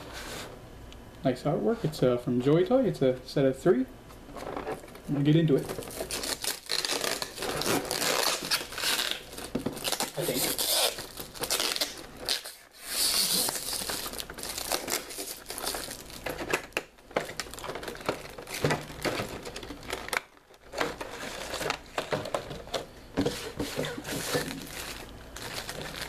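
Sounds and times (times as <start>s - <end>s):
packaging crinkling and rustling: 4.3s - 26.0s.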